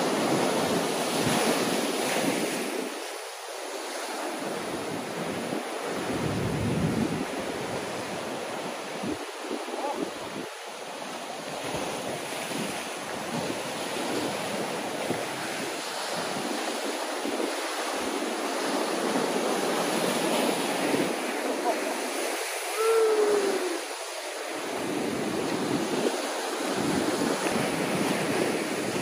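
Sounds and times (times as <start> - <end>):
ocean swell washing over rocks: 0.0 - 29.0
wind buffeting microphone: 4.4 - 29.0.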